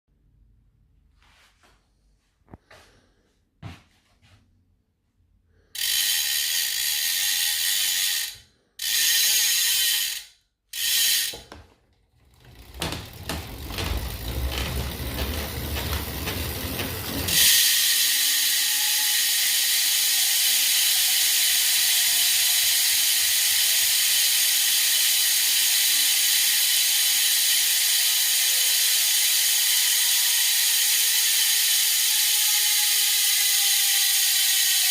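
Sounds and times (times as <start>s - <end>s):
bicycle freehub buzzing: 5.7s - 34.9s.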